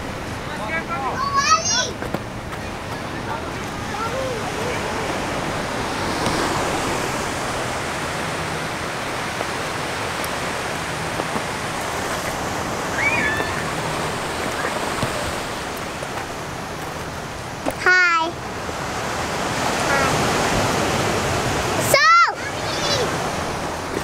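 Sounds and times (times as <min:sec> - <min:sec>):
waves breaking on rocky shore: 0:00.0 - 0:24.0.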